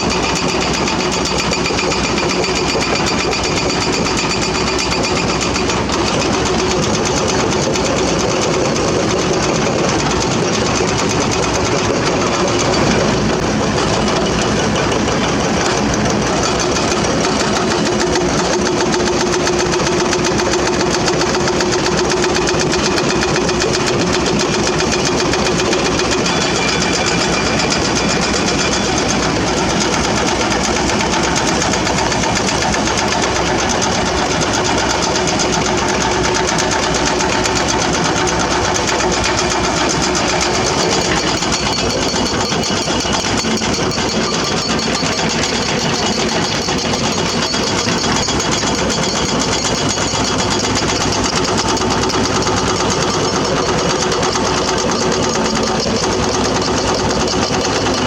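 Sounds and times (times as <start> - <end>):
excavator diesel engine: 0.0 - 58.0
steady whine: 0.0 - 58.0.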